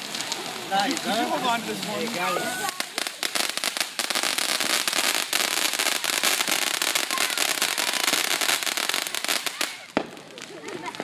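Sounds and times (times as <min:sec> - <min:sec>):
firework crackling: 0:00.0 - 0:11.0.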